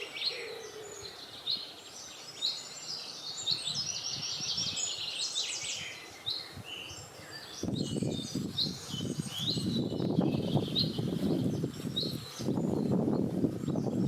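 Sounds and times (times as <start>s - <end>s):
low rush of wind: 0.0s - 14.0s
songbirds chirping and trilling: 0.0s - 14.0s.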